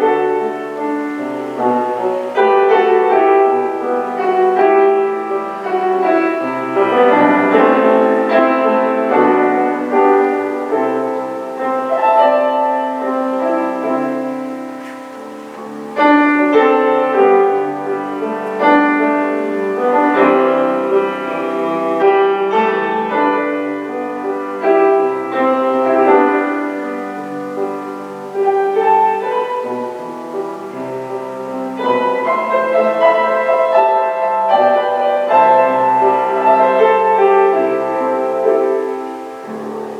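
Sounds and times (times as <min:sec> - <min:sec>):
slow solo piano piece: 0:00.0 - 0:39.9.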